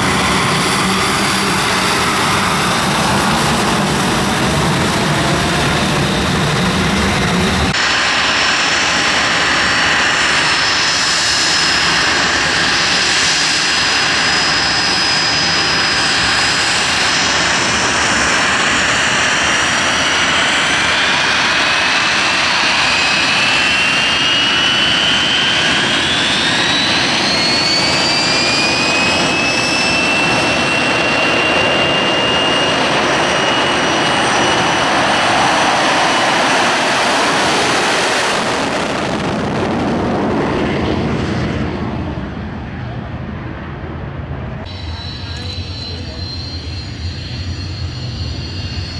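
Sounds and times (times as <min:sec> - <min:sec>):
jet engines roaring with whine: 0:00.0 - 0:48.9.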